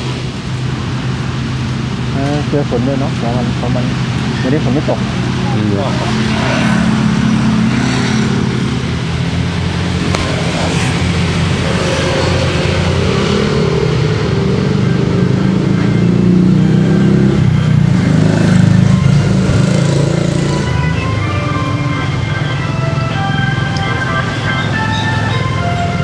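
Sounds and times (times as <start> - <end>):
engine droning: 0.0 - 26.0.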